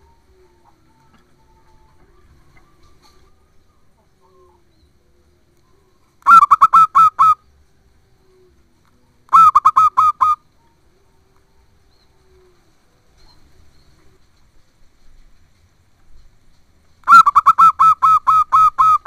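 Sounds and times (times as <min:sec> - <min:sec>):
dove cooing: 0:00.0 - 0:14.3, 0:17.0 - 0:19.0.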